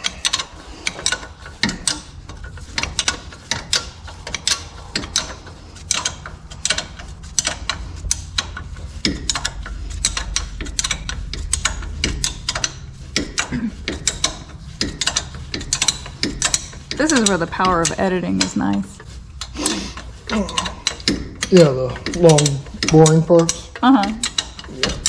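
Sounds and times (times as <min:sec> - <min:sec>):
ratchet wrench clicking: 0:00.0 - 0:25.0
steady low hum: 0:00.0 - 0:25.0.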